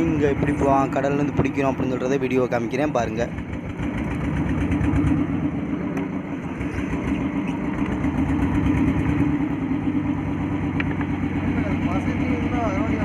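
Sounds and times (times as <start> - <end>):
boat engine pulsing drone: 0.0 - 13.0.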